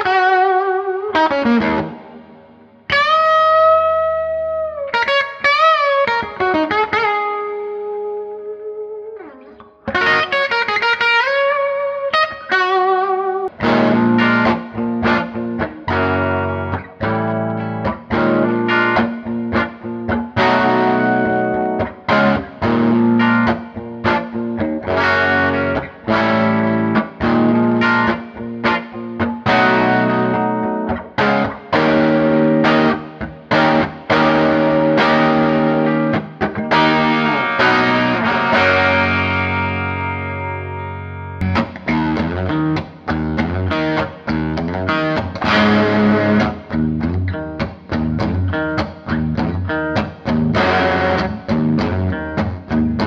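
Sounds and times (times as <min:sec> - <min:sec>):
distorted electric guitar: 0:00.0 - 0:53.0.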